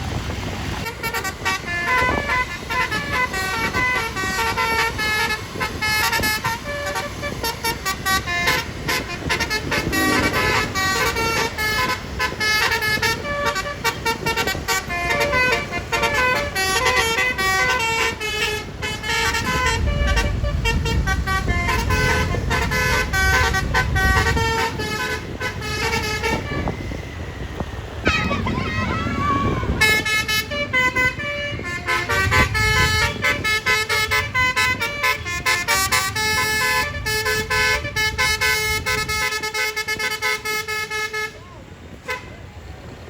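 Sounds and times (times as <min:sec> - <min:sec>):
low rumble of passing bus: 0:00.0 - 0:43.0
bus horn playing melody: 0:00.6 - 0:42.5.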